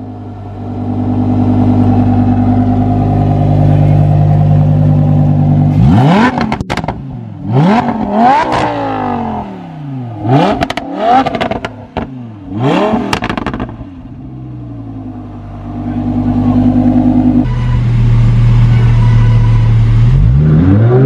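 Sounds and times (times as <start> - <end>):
sports car engine revving: 0.0 - 21.0.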